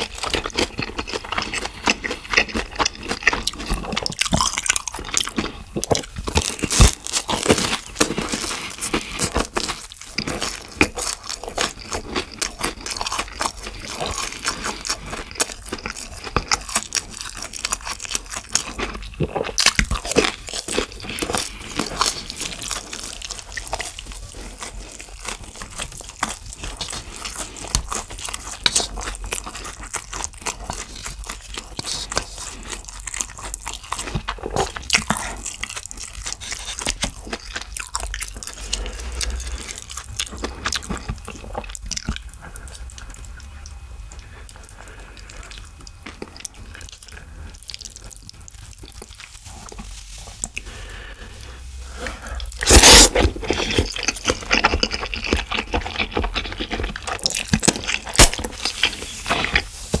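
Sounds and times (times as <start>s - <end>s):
crunching and chewing crisp food: 0.0s - 60.0s.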